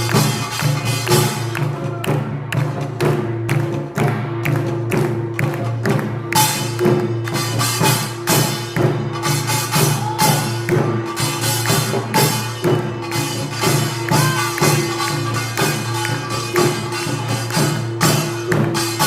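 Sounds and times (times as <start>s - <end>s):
drum strokes: 0.0s - 19.0s.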